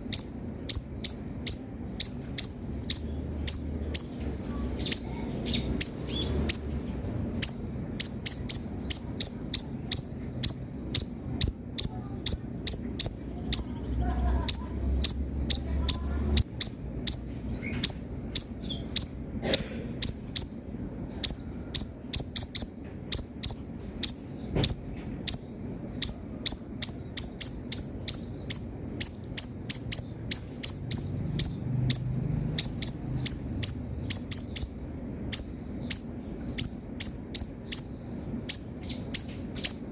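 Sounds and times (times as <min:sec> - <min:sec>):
sunbird singing sharp chirps: 0:00.0 - 0:39.9.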